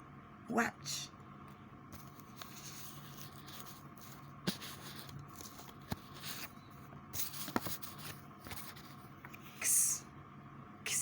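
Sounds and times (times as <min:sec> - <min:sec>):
faint hum and hiss: 0:00.0 - 0:11.0.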